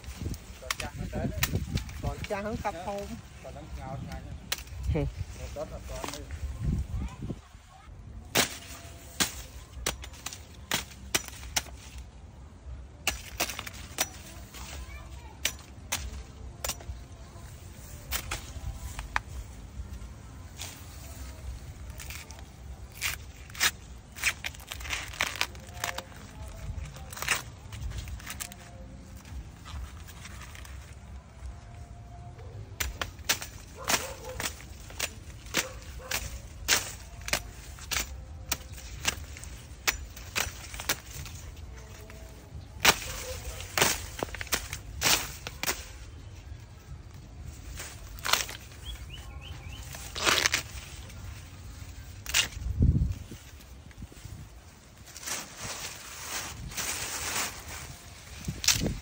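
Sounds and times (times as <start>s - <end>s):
sickle chopping corn stalks: 0.0s - 3.1s, 4.1s - 6.5s, 8.2s - 12.2s, 12.9s - 31.5s, 32.7s - 59.0s.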